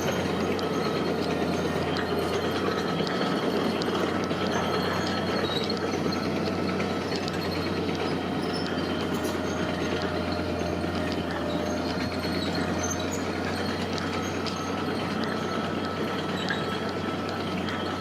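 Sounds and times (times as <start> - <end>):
diesel machinery low hum: 0.0 - 18.0.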